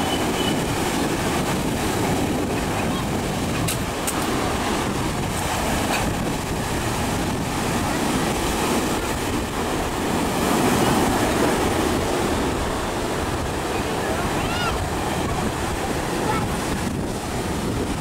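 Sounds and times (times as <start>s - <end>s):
sea surf breaking on beach: 0.0s - 18.0s.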